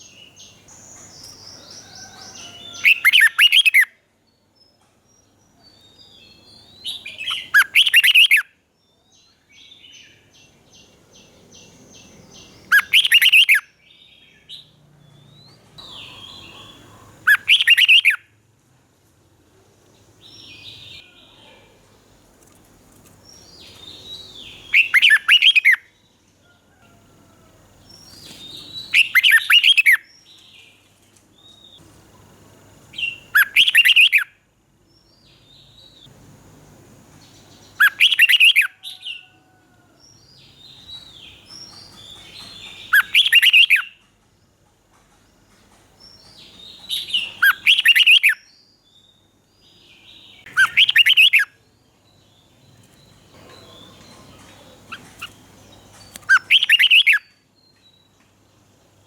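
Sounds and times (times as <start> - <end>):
bird singing bright phrases: 0.0 - 18.3, 20.2 - 22.1, 23.1 - 26.3, 27.8 - 31.9, 32.9 - 36.1, 37.1 - 44.2, 46.0 - 58.9.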